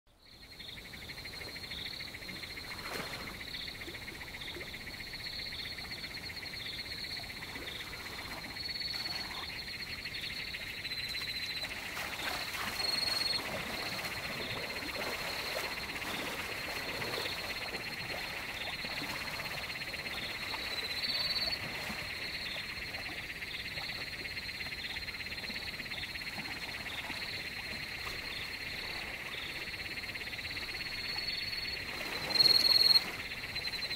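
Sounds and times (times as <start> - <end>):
frogs and insects trilling: 0.1 - 33.9.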